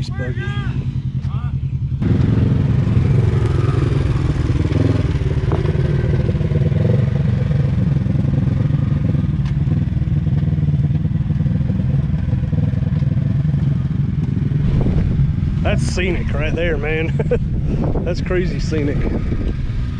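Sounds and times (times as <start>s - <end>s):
off-road vehicle engine running: 0.0s - 19.9s.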